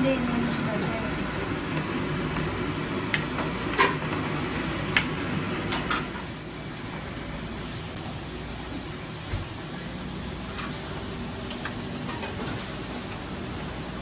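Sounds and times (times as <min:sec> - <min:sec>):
steady burner hiss: 0:00.0 - 0:14.0.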